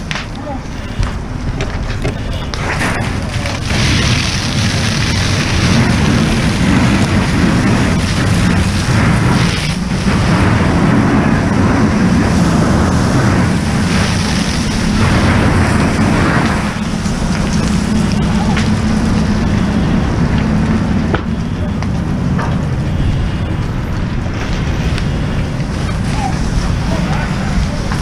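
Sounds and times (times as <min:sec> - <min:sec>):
fire hose water rushing: 0:00.0 - 0:28.0.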